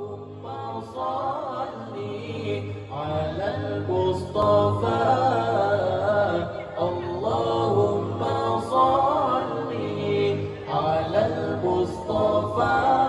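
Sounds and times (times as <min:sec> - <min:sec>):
male voices singing a cappella: 0:00.0 - 0:13.0.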